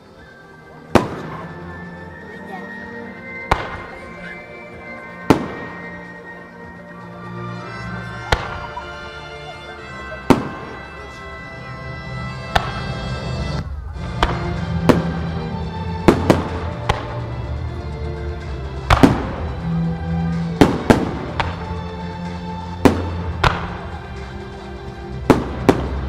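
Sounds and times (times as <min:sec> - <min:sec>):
music over loudspeakers: 0:00.8 - 0:26.0.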